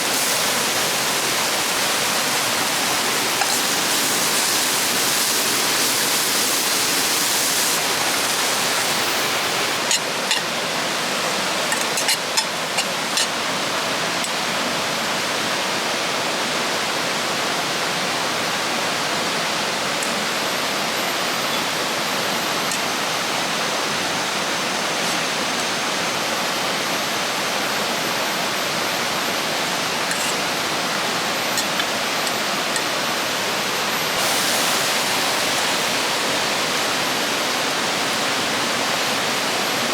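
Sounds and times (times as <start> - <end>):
river water rushing: 0.0 - 25.5, 29.4 - 39.9.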